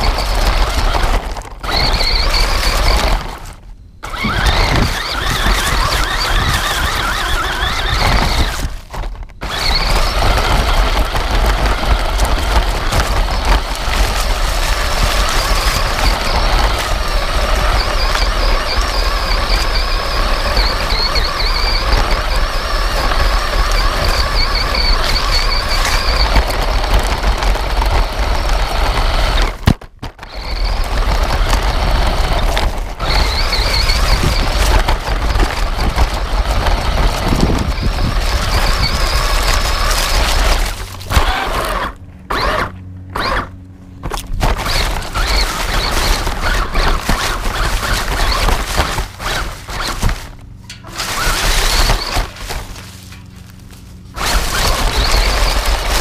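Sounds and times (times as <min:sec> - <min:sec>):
rc truck motor whining: 0:00.0 - 0:56.0
tyres over gravel: 0:00.0 - 0:56.0.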